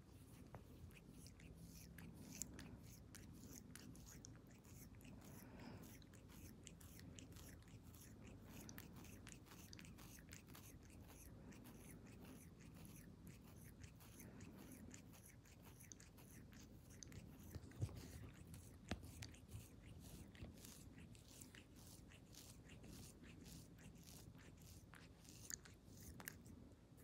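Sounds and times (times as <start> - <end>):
cat licking while grooming: 0.0 - 27.0
low room hum: 0.0 - 27.0.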